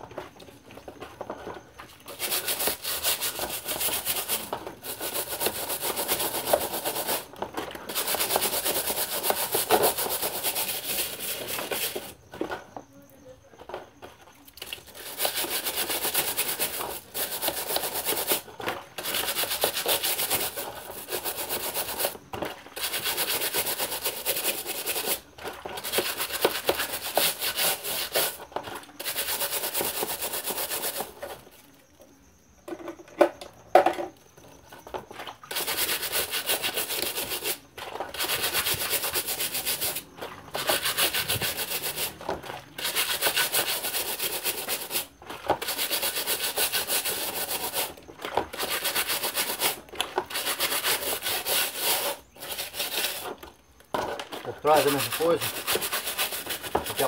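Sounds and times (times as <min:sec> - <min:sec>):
brush scrubbing fan grille: 0:01.0 - 0:12.2, 0:14.8 - 0:31.6, 0:35.4 - 0:53.4, 0:54.3 - 0:57.0.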